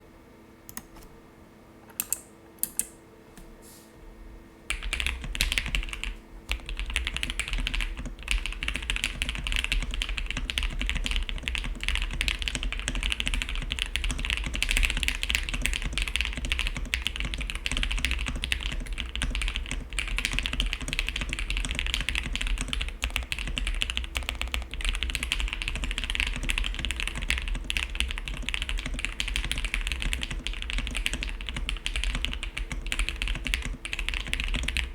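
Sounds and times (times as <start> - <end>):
mechanical keyboard typing: 1.9 - 2.9, 4.7 - 34.9.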